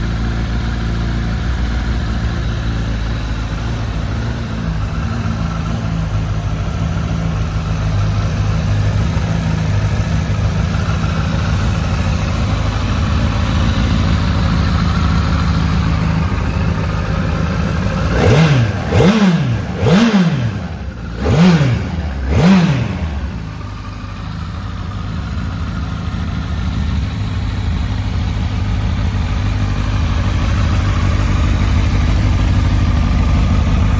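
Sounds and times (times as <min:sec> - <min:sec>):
motorcycle engine idling: 0:00.0 - 0:33.9
motorcycle engine revving: 0:00.0 - 0:33.9.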